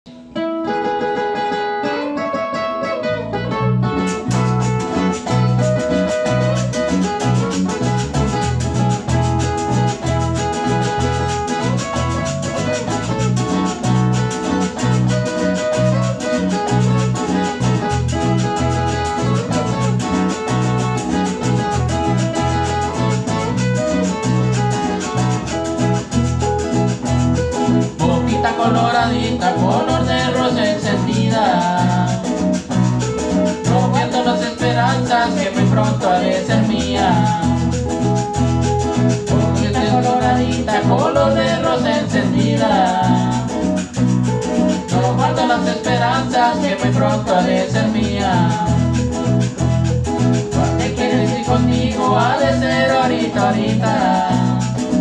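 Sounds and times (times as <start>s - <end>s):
acoustic guitars playing melody: 0.0s - 55.0s
electric bass pattern: 1.3s - 55.0s.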